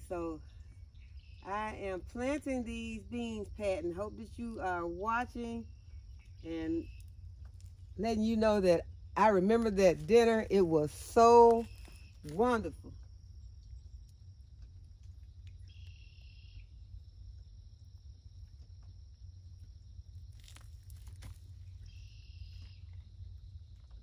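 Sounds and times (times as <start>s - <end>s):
insect chirping calls: 0.0s - 24.0s
insects droning: 0.0s - 24.0s
low steady rumble: 0.0s - 24.0s.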